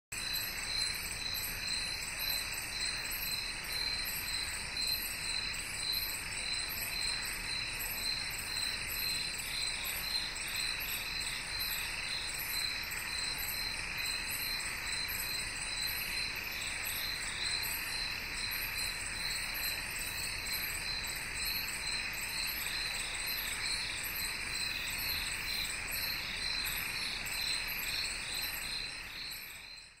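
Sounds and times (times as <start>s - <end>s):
insects chirping: 0.2s - 30.0s.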